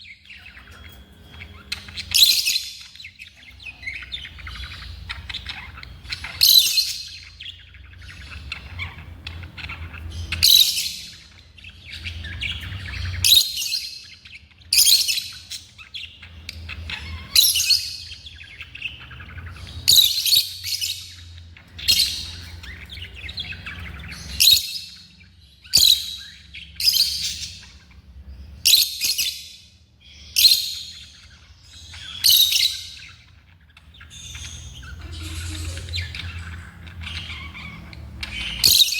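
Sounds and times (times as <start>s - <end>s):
lovebirds chirping shrilly: 0.0s - 38.9s.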